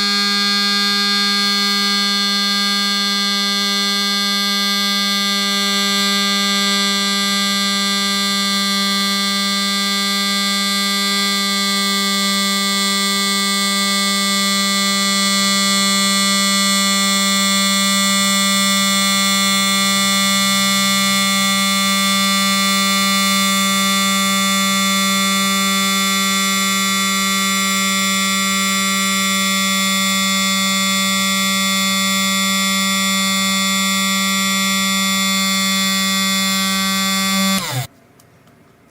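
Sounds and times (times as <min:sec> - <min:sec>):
steady electric buzz: 0:00.0 - 0:37.9.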